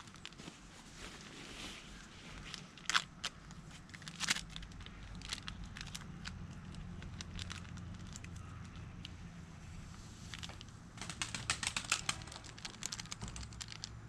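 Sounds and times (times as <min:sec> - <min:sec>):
crackles and clicks: 0:00.0 - 0:09.3, 0:10.2 - 0:14.0
faint low hum: 0:00.0 - 0:14.0.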